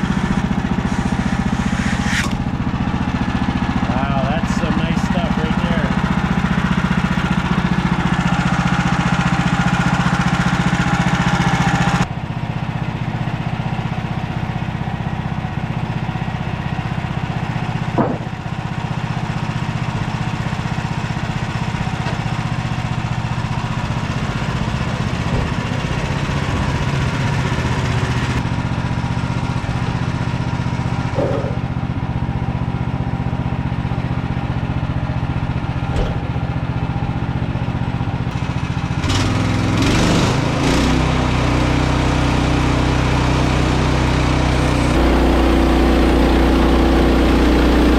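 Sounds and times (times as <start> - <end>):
sawmill gas engine running: 0.0 - 47.9.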